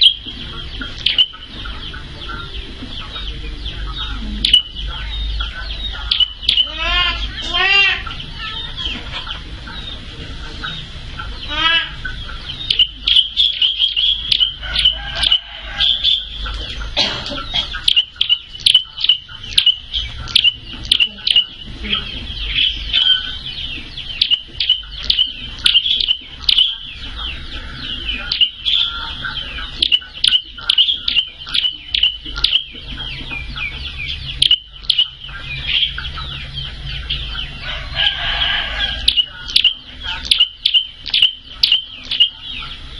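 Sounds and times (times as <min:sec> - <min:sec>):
bird chipping calls: 0:00.0 - 0:42.9
chicken clucking: 0:00.0 - 0:42.9
low steady hum: 0:00.0 - 0:42.9.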